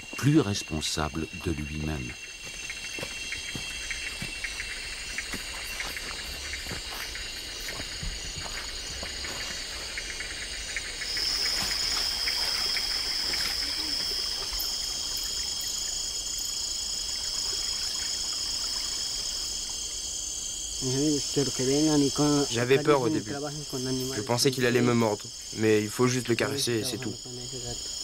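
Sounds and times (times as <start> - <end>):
high insect whine: 0.0 - 28.0
insects droning: 0.0 - 28.0.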